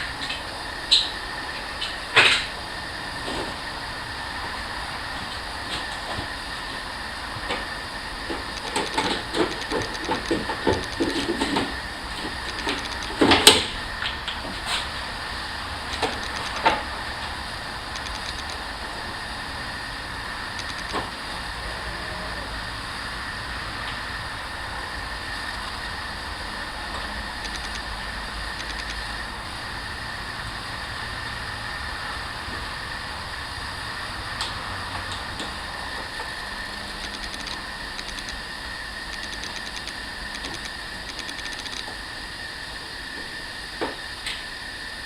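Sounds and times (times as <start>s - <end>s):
machine whining: 0.0s - 45.0s.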